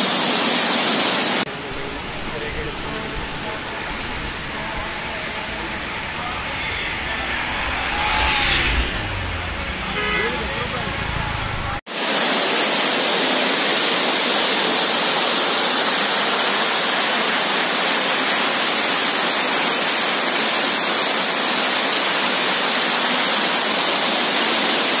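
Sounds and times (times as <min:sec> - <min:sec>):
water rushing over spillway: 0:00.0 - 0:06.8, 0:10.2 - 0:25.0.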